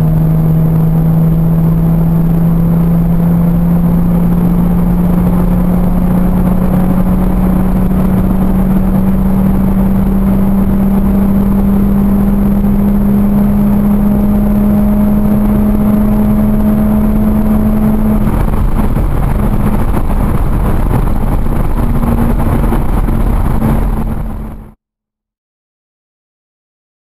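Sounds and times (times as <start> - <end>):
car engine pulling hard: 0.0 - 24.8
wind and road noise: 0.0 - 24.8.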